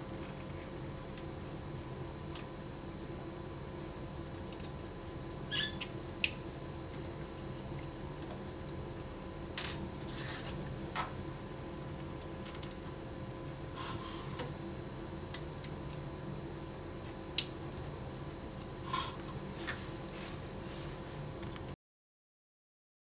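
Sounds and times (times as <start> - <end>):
faint electrical hum: 0.0 - 21.8.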